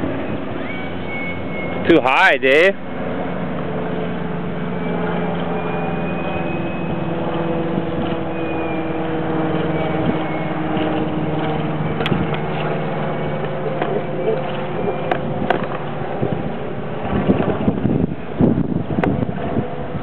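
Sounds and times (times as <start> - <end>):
model jet whining rush: 0.0 - 20.0.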